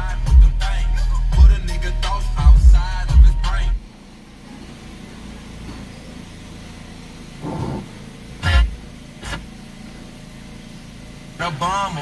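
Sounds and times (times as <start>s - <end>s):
car engine idling hum: 0.0s - 12.0s.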